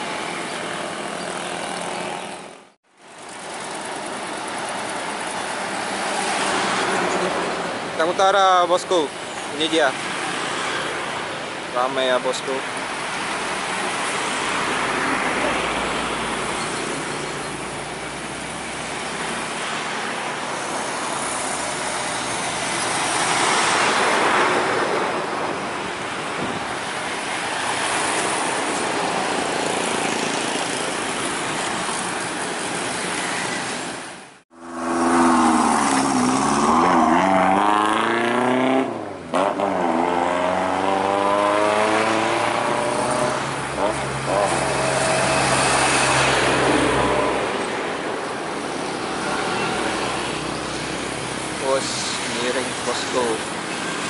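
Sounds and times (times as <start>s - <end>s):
roadside traffic noise: 0.0s - 54.0s.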